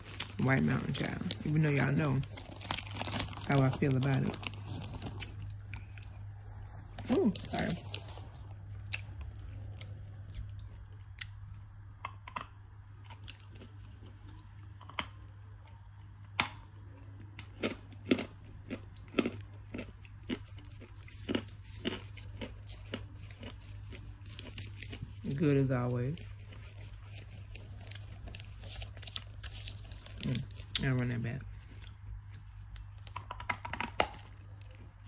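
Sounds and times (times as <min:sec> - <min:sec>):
crunching chewing of clay: 0:00.0 - 0:35.0
steady low hum: 0:00.0 - 0:35.0.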